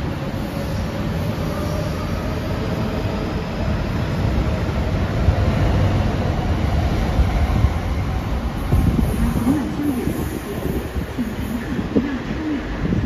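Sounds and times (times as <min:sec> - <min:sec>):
train passing at speed: 0:00.0 - 0:13.0
wheels rumbling on rail: 0:00.0 - 0:13.0.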